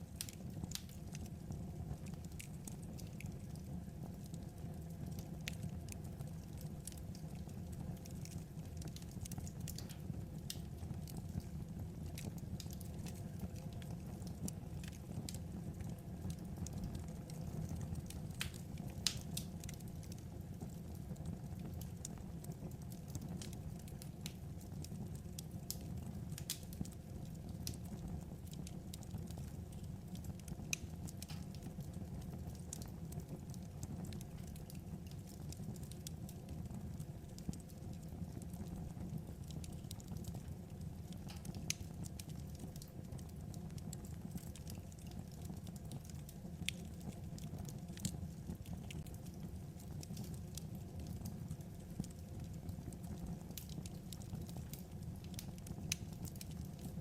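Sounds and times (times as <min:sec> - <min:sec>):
fire low rumble: 0:00.0 - 0:57.0
firewood crackling and popping: 0:00.0 - 0:57.0.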